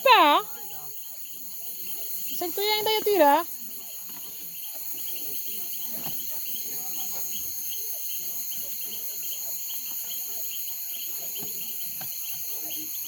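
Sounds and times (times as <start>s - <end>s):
crickets and insects trilling: 0.0s - 13.0s
high pulsed insect chirp: 0.0s - 13.0s.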